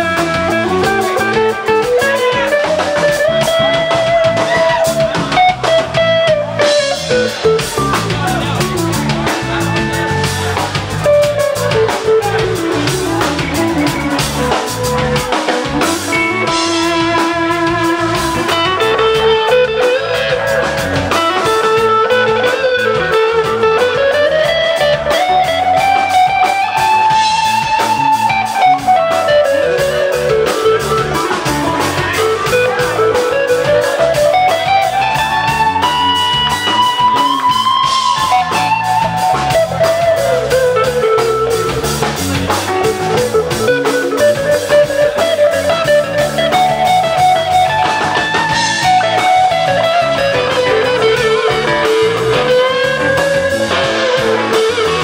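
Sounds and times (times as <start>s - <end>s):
lead guitar line: 0.0s - 55.0s
live band music: 0.0s - 55.0s.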